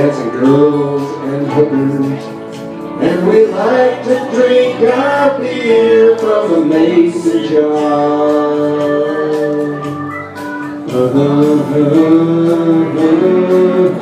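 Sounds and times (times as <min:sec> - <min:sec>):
karaoke backing track: 0:00.0 - 0:14.0
man singing country song: 0:00.0 - 0:14.0.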